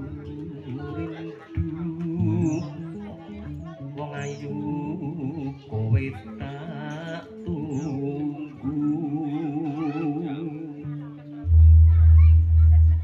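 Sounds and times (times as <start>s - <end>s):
person singing: 0.0s - 11.8s
music over outdoor sound system: 0.0s - 13.0s.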